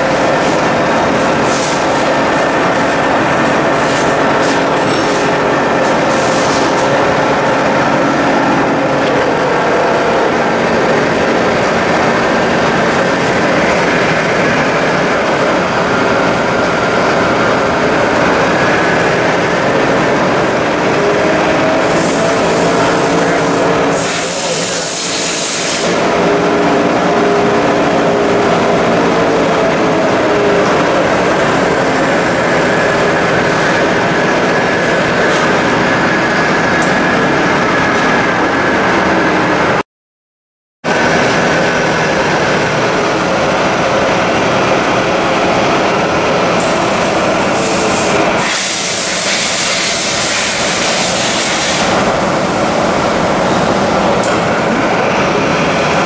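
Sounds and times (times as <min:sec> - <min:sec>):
milling machine spindle running: 0:00.0 - 0:39.8, 0:40.9 - 0:56.0.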